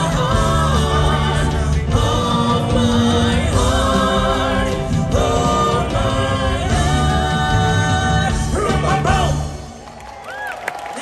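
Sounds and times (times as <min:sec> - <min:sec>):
group singing held notes: 0:00.0 - 0:09.0
live band playing: 0:00.0 - 0:09.8.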